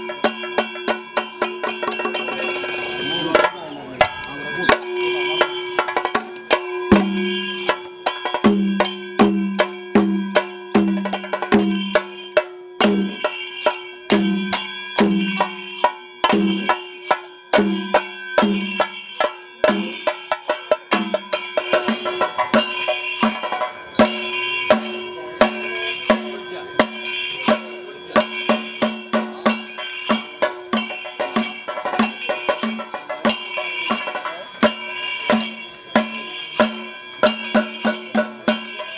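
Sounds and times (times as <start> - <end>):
drums beating: 0.0 - 38.9
small hand cymbals clashing: 0.0 - 38.9.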